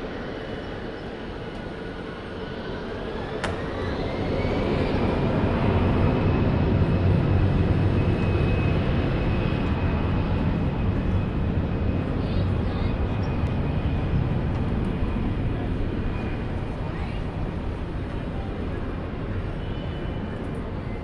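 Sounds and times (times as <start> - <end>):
jet engine whine: 0.0 - 21.0
jet engines rumbling: 0.0 - 21.0.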